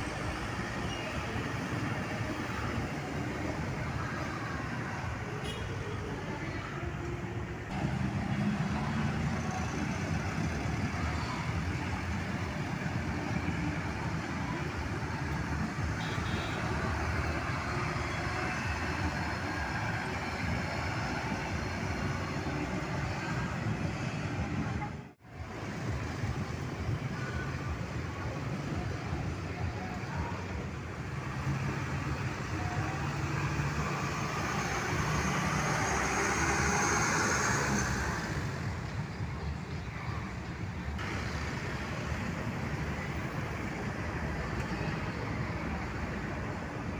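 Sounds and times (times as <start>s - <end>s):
heavy trucks and buses passing: 0.0s - 46.9s.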